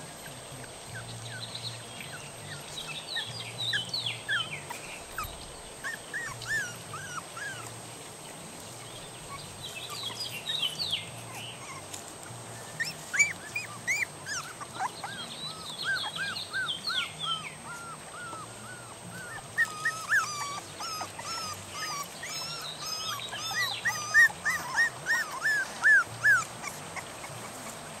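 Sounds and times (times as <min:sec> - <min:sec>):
puppies whining: 0:00.0 - 0:28.0.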